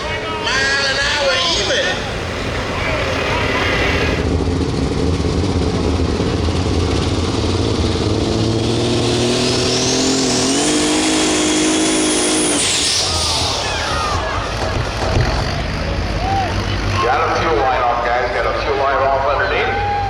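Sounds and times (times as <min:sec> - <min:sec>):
high whine: 0:00.0 - 0:18.8
vehicle engine running under load: 0:00.0 - 0:20.0.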